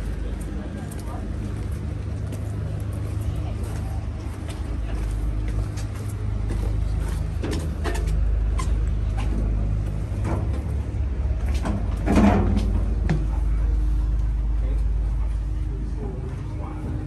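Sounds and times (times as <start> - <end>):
footsteps on metal steps: 0.0 - 15.4
boat engine idling: 0.0 - 17.0.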